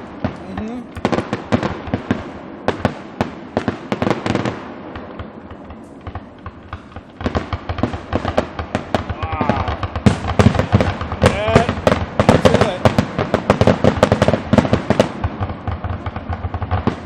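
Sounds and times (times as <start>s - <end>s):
fireworks banging and crackling: 0.0s - 17.0s.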